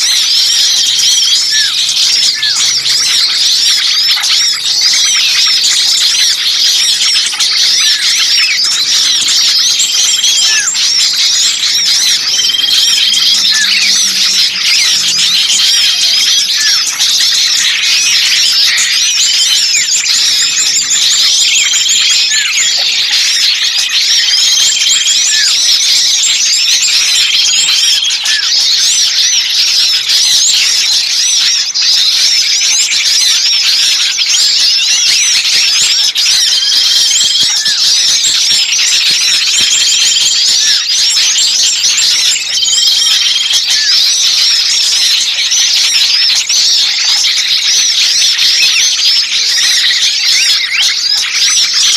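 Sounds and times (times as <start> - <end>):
small birds chirping chorus: 0.0 - 51.9.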